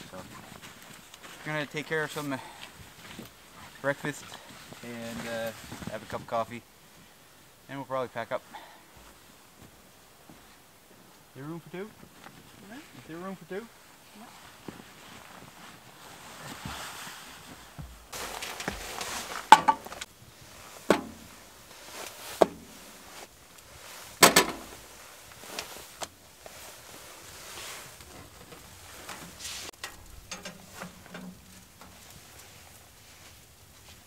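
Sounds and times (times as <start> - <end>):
soft hiss: 0.0 - 34.0.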